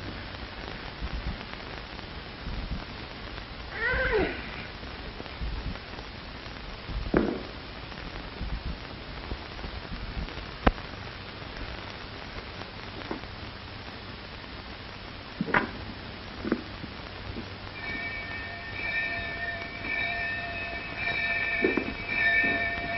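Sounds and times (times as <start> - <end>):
film soundtrack hiss: 0.0 - 22.9.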